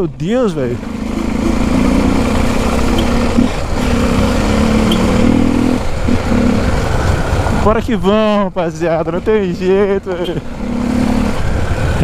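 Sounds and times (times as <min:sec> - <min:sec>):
low traffic rumble: 0:00.0 - 0:12.0
motorcycle engine running: 0:00.0 - 0:12.0.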